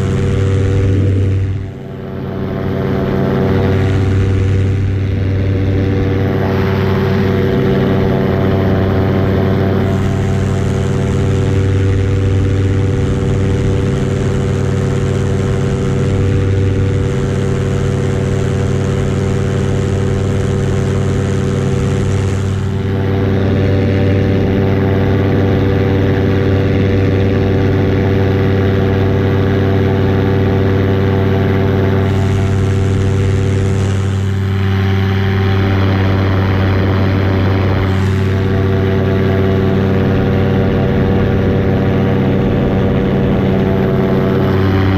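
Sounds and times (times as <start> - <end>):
paramotor engine and propeller: 0.0 - 44.9.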